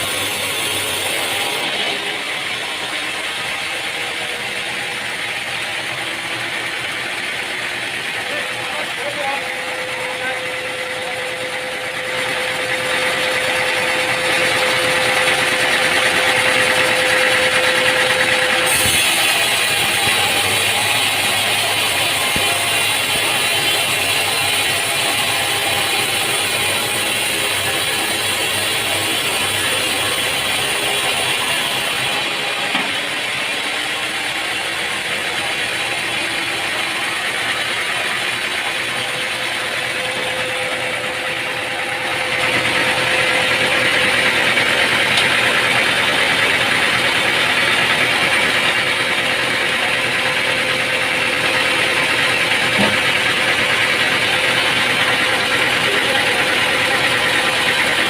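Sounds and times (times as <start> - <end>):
sawmill machinery humming: 0.0 - 58.0.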